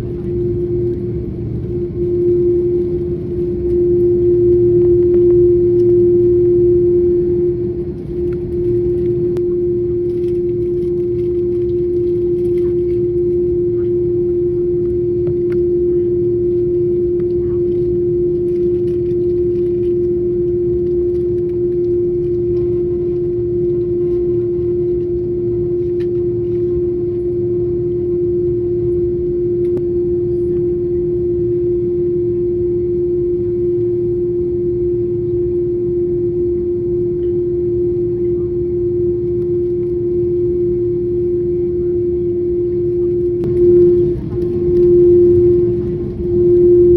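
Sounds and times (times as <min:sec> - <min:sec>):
aircraft cabin hum: 0:00.0 - 0:46.9.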